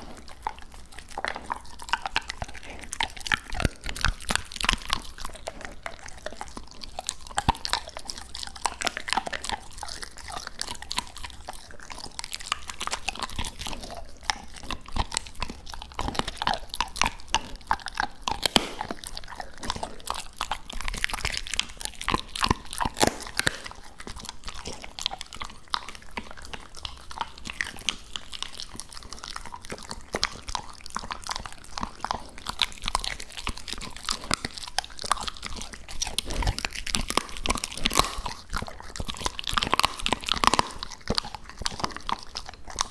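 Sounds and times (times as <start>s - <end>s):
dog chewing with crunches: 0.0s - 42.9s.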